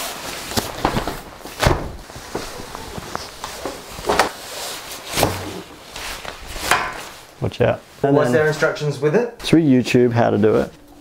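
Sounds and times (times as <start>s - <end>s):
fabric diffuser rustling and swishing: 0.0s - 9.6s.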